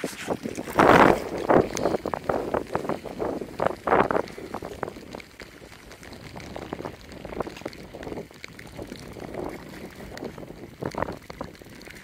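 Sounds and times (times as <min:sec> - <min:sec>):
wind buffeting the microphone: 0:00.0 - 0:12.0.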